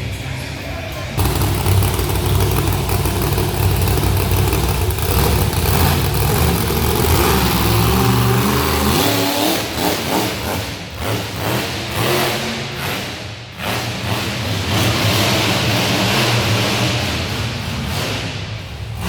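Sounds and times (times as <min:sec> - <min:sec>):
monster truck engine revving: 0:01.2 - 0:19.0.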